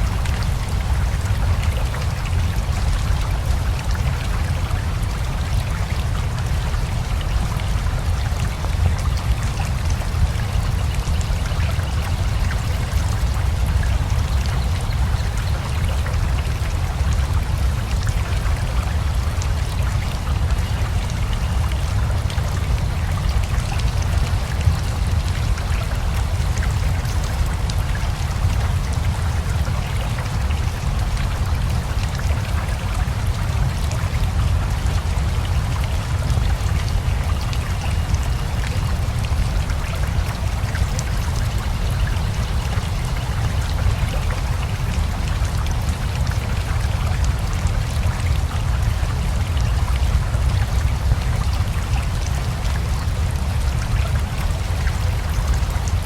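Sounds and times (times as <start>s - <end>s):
raindrops pattering: 0.0s - 56.0s.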